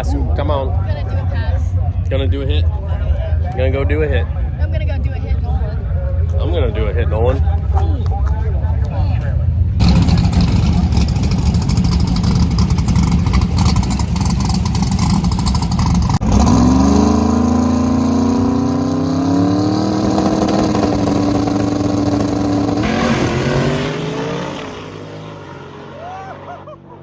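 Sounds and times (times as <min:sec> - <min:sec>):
drag race car engine: 0:00.0 - 0:27.0.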